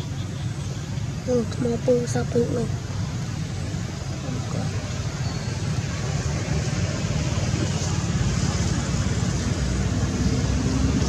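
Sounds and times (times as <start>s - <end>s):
low pulsing engine rumble: 0.0s - 11.0s.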